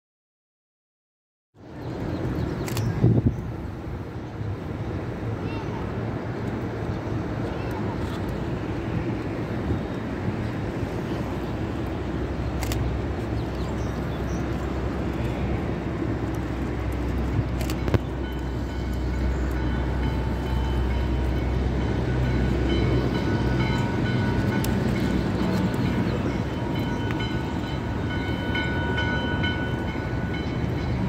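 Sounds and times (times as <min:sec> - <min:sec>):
steam locomotive rumbling: 0:01.7 - 0:31.0.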